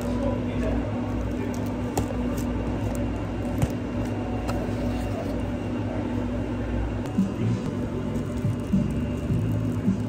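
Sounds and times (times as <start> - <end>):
low hum of cafe equipment: 0.0 - 10.0.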